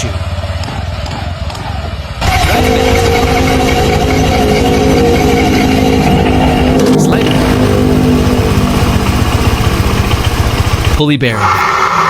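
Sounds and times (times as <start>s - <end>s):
scooter transmission rattle and whine: 0.0s - 11.2s.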